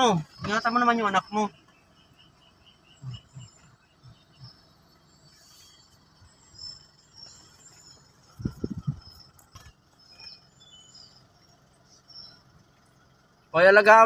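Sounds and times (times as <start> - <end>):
faint high chirping: 0.0 - 13.6.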